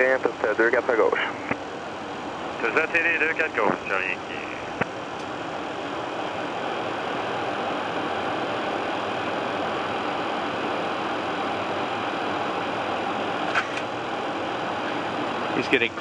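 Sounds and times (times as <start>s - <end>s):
cockpit airflow noise: 0.0s - 16.0s
ventilation hiss: 0.0s - 16.0s.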